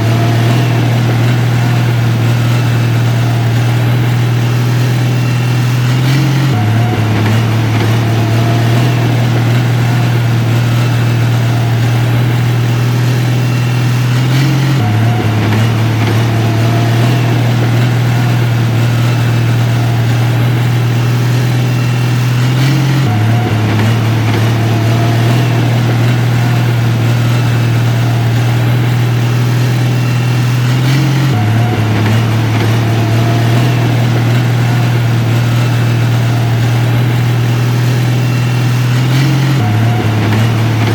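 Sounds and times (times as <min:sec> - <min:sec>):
diesel engine humming: 0:00.0 - 0:40.9.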